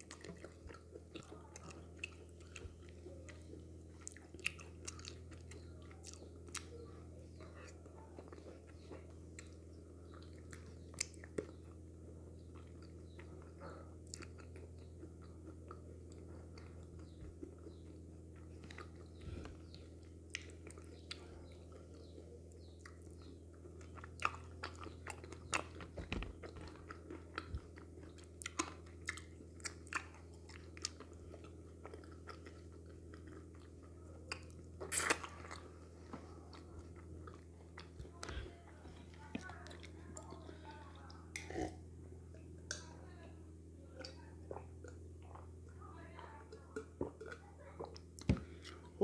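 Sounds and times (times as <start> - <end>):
chewing and mouth sounds: 0.0 - 42.9, 43.9 - 49.0
steady low hum: 0.0 - 49.0.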